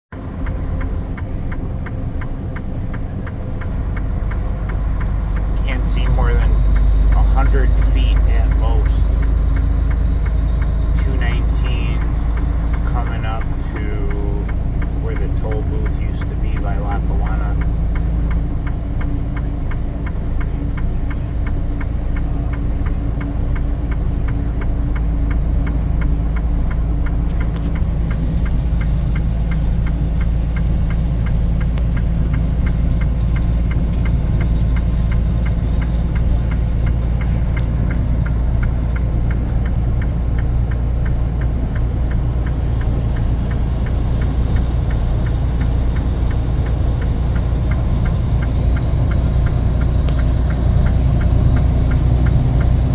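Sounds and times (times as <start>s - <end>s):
vehicle engine rumbling: 0.0s - 52.9s
light regular ticking: 0.2s - 52.9s.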